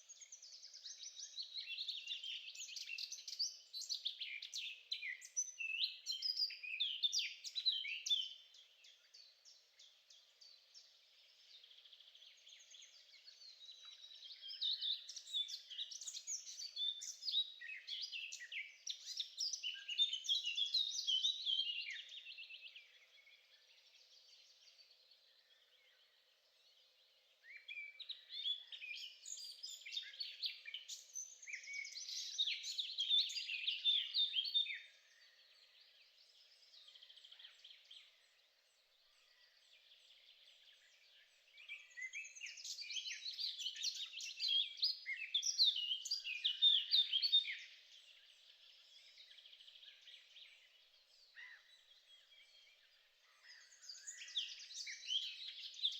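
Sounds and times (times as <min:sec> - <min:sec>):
songbird chirping and trilling: 0:00.0 - 0:55.9.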